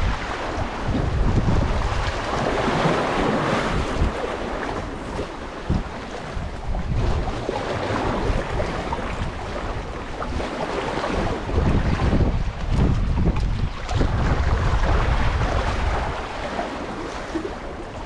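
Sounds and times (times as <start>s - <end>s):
waves splashing against concrete: 0.0s - 18.0s
wind buffeting microphone: 0.0s - 18.0s.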